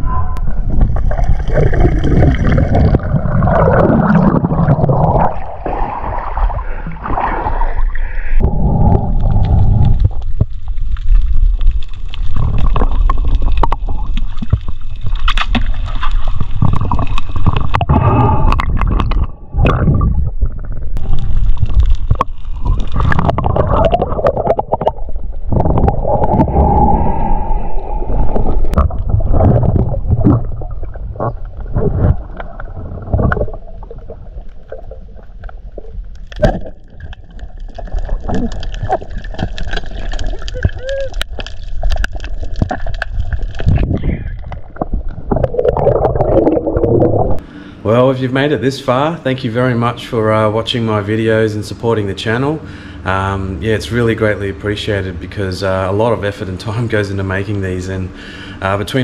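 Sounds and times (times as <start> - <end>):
water rushing and gurgling underwater: 0.0 - 47.8.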